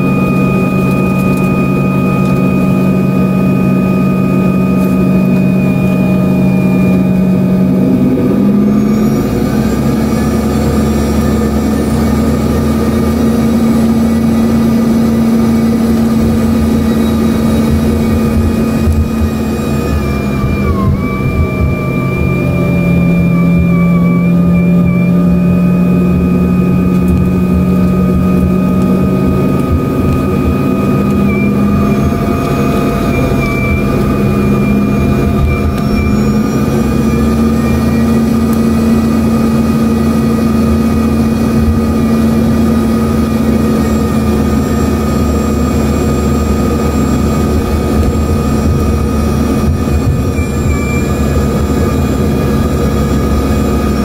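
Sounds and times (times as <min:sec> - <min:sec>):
deep rumble: 0:00.0 - 0:54.0
jet engine whine and hum: 0:00.0 - 0:54.0.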